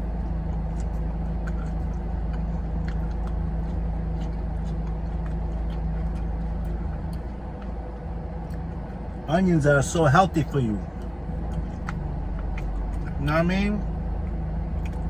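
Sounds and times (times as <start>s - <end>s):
car engine idling: 0.0s - 15.0s
faint eating clicks: 0.1s - 9.0s, 9.8s - 13.2s, 14.2s - 15.0s.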